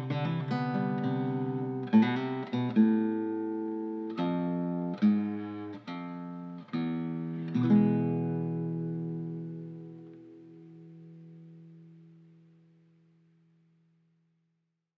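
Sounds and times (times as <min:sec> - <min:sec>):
acoustic guitar chords: 0:00.0 - 0:13.5.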